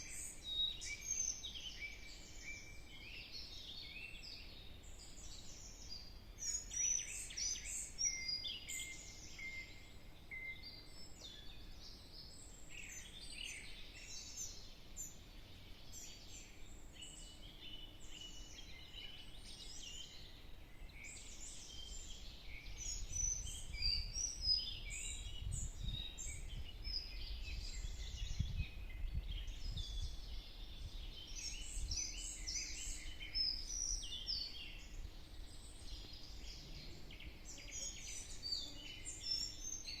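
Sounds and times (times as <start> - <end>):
forest birds singing: 0.0 - 40.0.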